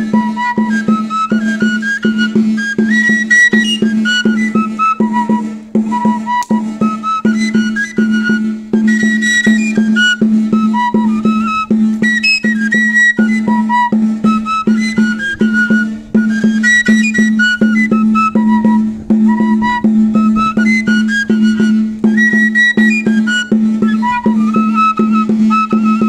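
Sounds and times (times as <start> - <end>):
wind band playing: 0.0 - 26.0.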